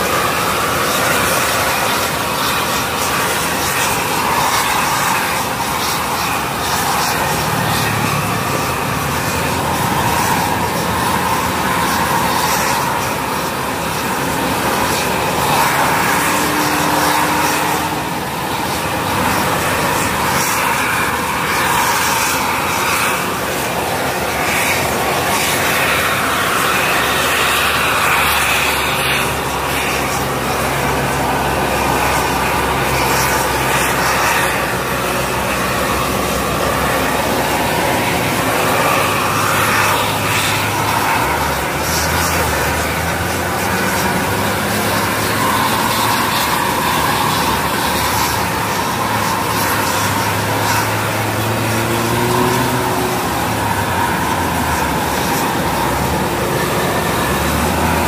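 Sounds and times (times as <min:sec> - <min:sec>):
constant rushing noise: 0:00.0 - 0:58.0
loud engine drone: 0:00.0 - 0:58.0.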